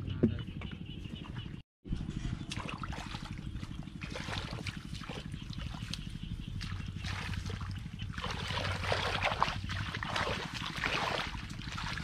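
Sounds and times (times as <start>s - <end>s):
steady low rumble: 0.0s - 12.0s
muddy water splashing: 2.4s - 12.0s.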